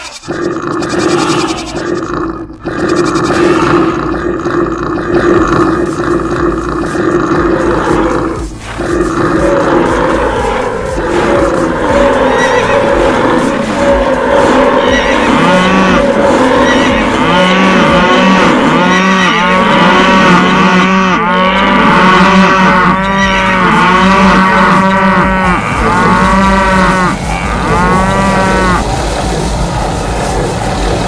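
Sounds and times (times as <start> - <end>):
steady noisy din: 0.0 - 31.0
cattle mooing: 0.3 - 28.8.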